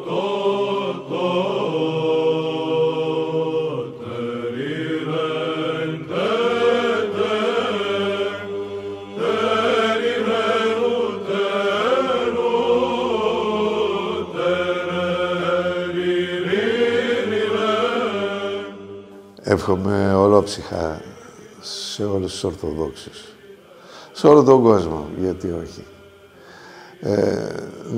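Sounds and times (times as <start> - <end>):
held vocal drone: 0.0 - 27.9.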